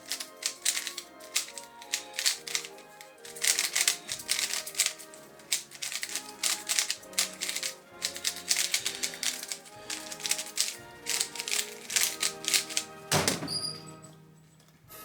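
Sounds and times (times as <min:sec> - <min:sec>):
speed cube layers clacking: 0:00.0 - 0:13.1
background music: 0:00.0 - 0:15.0.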